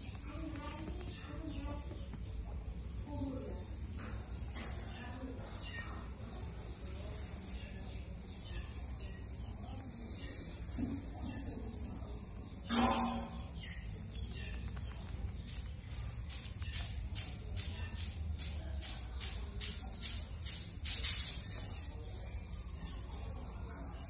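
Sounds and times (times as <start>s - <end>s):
insect trilling: 0.0s - 3.8s, 4.9s - 24.0s.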